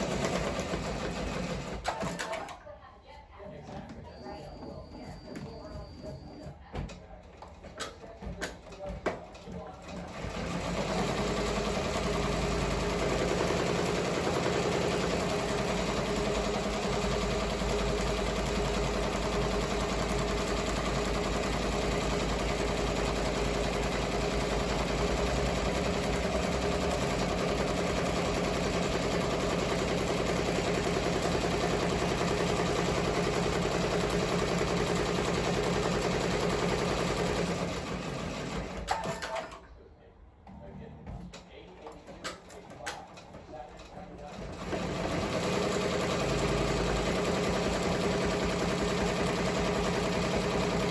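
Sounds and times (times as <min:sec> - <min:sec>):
embroidery machine stitching: 0:00.0 - 0:02.6, 0:08.4 - 0:39.6, 0:41.5 - 0:50.9.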